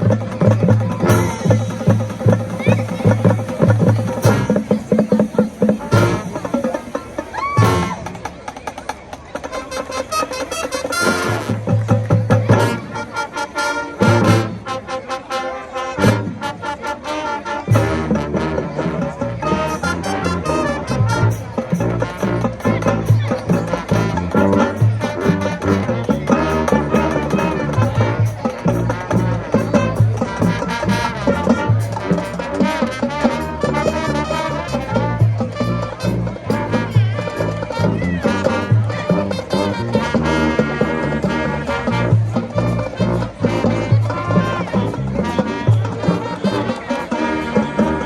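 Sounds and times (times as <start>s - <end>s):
brass melody: 0.0s - 8.5s, 9.4s - 48.0s
drum beats: 0.0s - 14.8s, 17.7s - 48.0s
marching band playing: 0.0s - 48.0s.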